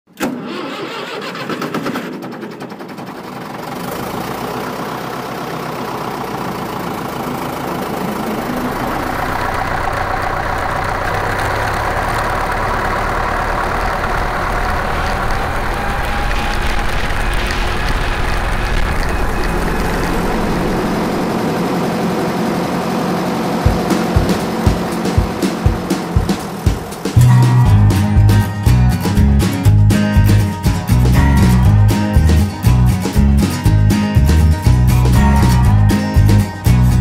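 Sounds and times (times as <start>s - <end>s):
diesel tractor engine starting and running: 0.1s - 37.0s.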